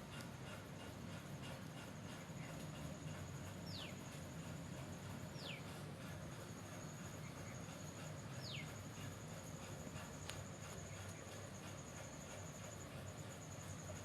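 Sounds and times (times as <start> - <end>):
high-pitched insect drone: 1.4 - 14.0.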